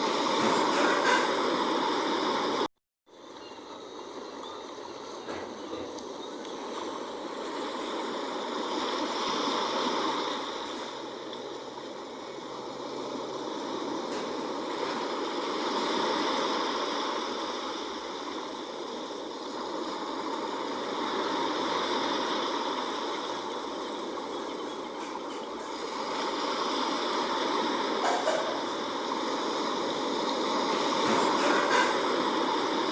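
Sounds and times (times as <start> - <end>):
sea waves washing in: 0.0 - 32.9.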